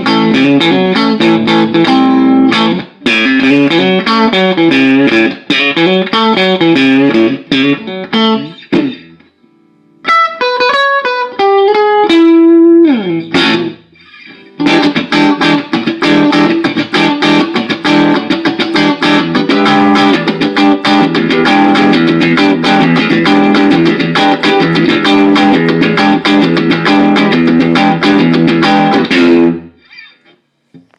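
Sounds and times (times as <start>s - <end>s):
clean electric guitar: 0.0s - 30.9s.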